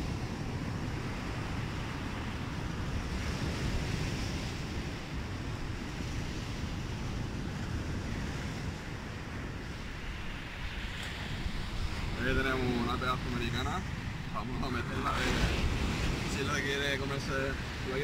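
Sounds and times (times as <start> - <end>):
surf washing on beach: 0.0 - 18.0
wind buffeting microphone: 0.0 - 18.0.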